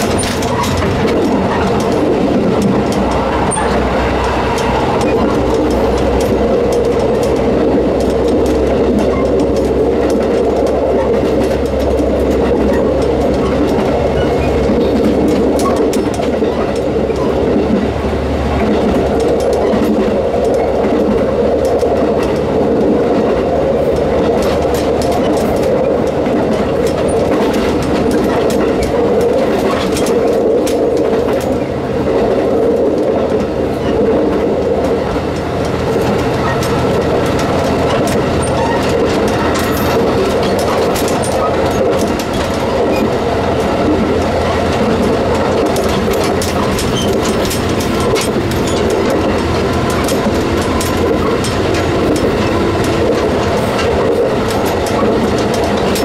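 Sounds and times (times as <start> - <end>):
railcar engine drone: 0.0 - 56.0
wheels clickety-clack: 0.0 - 56.0.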